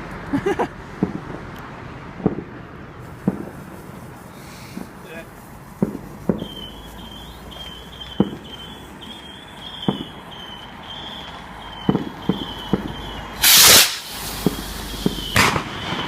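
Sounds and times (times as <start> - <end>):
fireworks booming: 0.9 - 1.5, 2.1 - 16.0.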